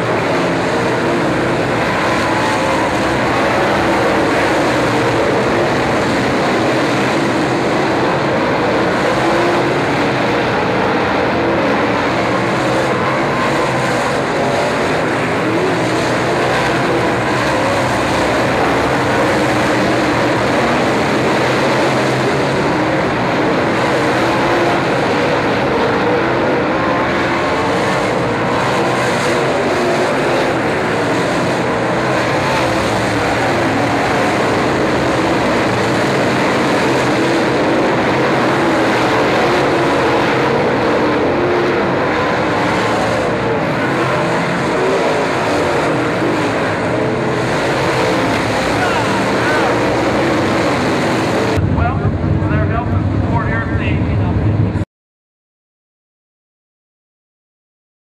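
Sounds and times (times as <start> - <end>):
race car engines roaring: 0.0 - 54.8.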